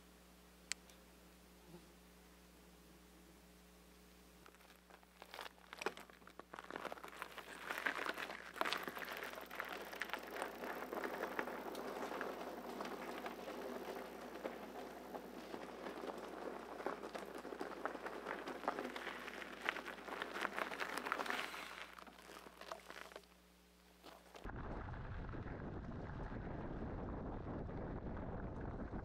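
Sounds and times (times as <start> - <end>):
bike tyres crunching gravel: 4.4 - 29.0.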